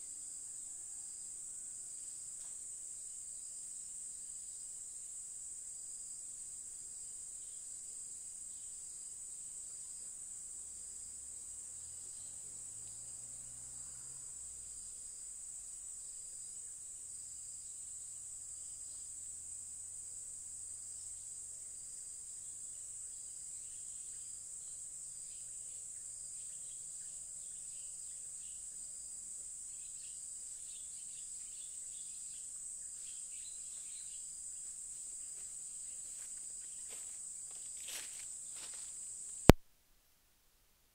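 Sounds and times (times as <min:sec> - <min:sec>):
insects droning: 0:00.0 - 0:39.6.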